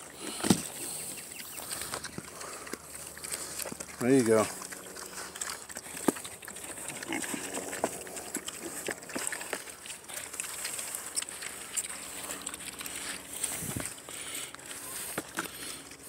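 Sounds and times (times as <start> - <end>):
pigs chewing and crunching feed: 0.0 - 16.0.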